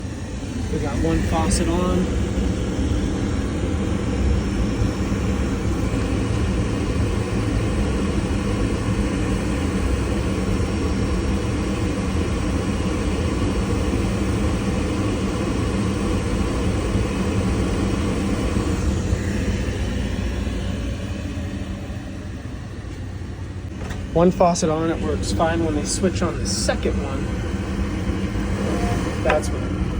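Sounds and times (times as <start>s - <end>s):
water heater burner and fan humming: 0.0s - 29.9s.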